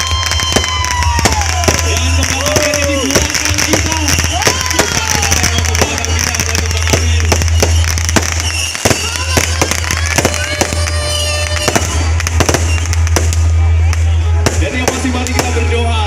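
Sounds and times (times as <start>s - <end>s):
firework whistling glides: 0.0s - 15.7s
firework bangs and crackles: 0.0s - 16.0s.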